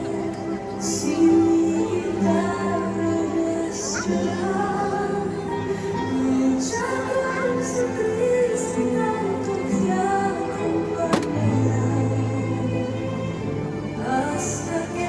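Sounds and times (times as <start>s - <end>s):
orchestral music with vocals: 0.0s - 15.0s.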